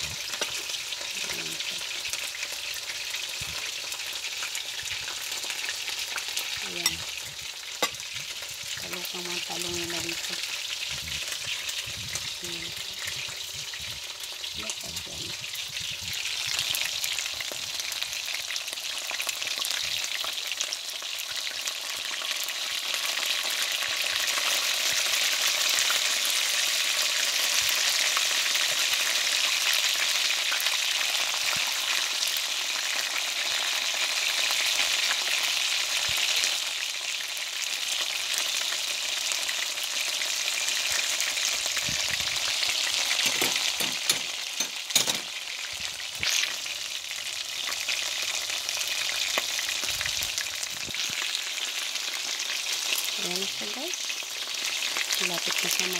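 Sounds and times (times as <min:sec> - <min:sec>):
chicken sizzling in oil: 0:00.0 - 0:55.9.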